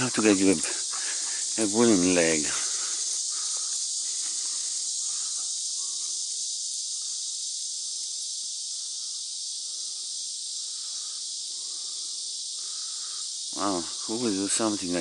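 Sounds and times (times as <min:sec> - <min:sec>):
crickets and insects chirping: 0:00.0 - 0:15.0.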